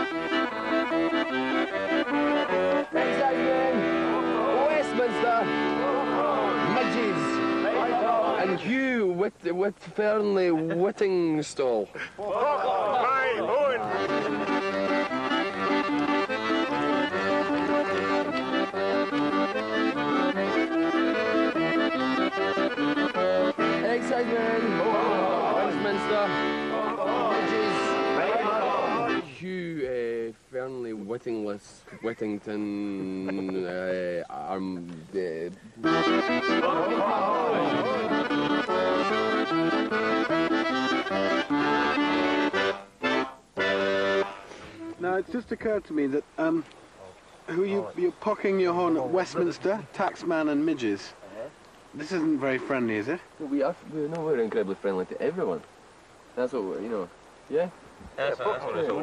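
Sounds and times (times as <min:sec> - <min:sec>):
accordion folk tune: 0:00.0 - 0:12.2, 0:13.0 - 0:29.6, 0:32.0 - 0:46.8, 0:47.5 - 0:51.1.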